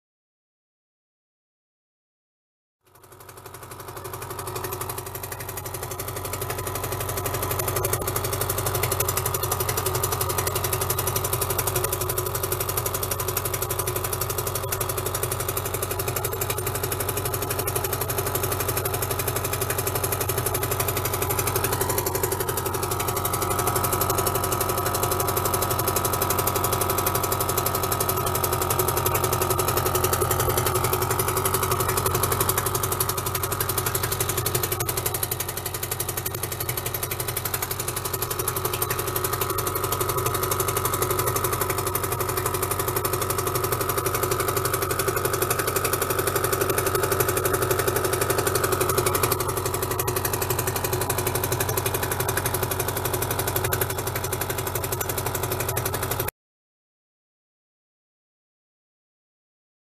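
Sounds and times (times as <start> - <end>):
outboard engine running: 2.9 - 56.3.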